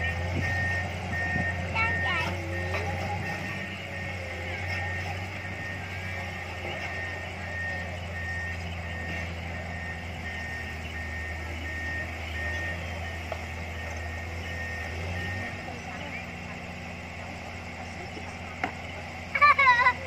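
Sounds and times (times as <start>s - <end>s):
diesel engines running: 0.0s - 20.0s
reversing alarm beeping: 0.0s - 20.0s.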